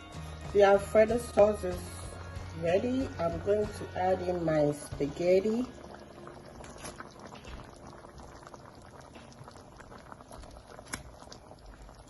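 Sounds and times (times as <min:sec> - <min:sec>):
sauce bubbling and popping: 0:01.7 - 0:12.0.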